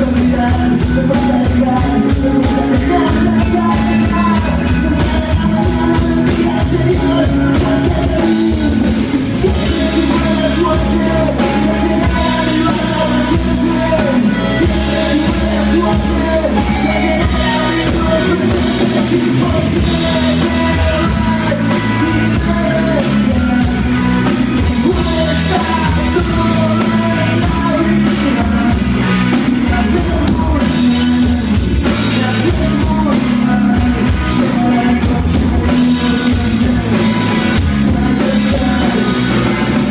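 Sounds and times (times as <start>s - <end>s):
bass guitar: 0.0s - 39.9s
drum kit: 0.0s - 39.9s
electric guitars: 0.0s - 39.9s
man singing: 0.0s - 39.9s.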